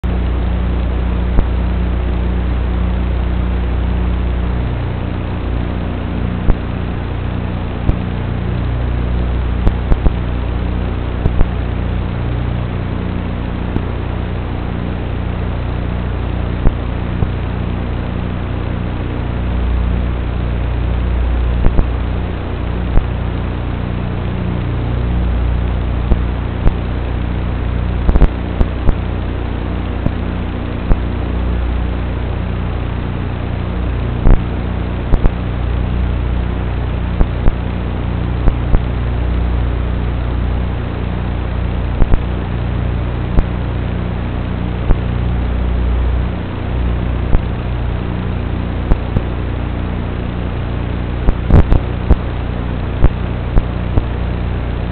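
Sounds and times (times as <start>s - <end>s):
electrical hum and hiss: 0.0s - 54.9s.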